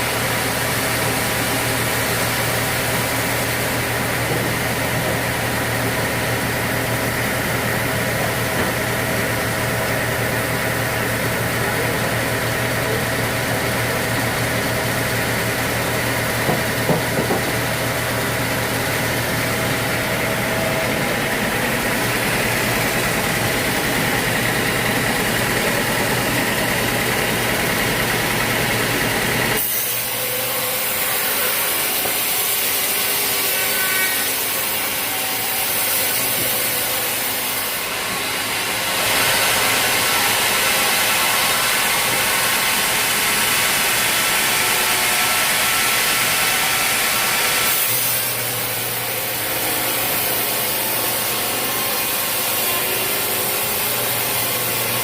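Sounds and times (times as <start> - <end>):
sawmill engine running: 0.0 - 55.0
saw blade cutting log: 0.1 - 55.0.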